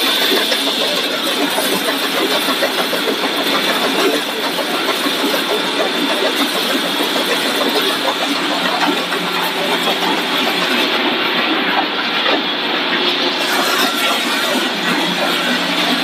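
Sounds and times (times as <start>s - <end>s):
continuous clatter and hiss: 0.0s - 16.0s
machinery hum: 0.0s - 16.0s.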